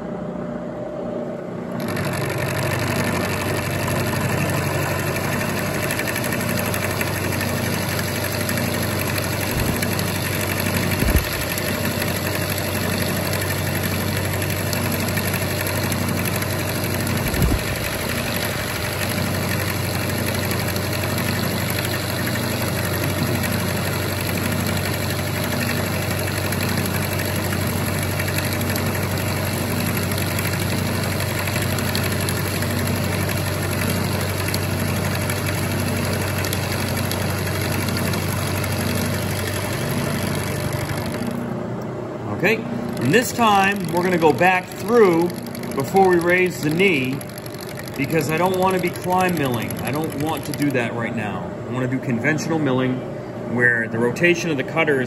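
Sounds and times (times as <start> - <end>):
milling machine cutting metal: 1.8 - 41.8, 42.4 - 51.7.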